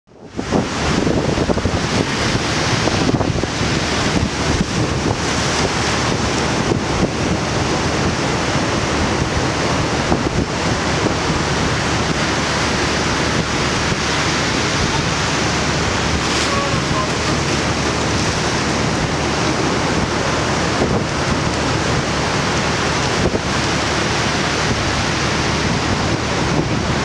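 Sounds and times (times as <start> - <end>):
surf washing over rocks: 0.1 - 27.0
wind buffeting microphone: 0.1 - 27.0.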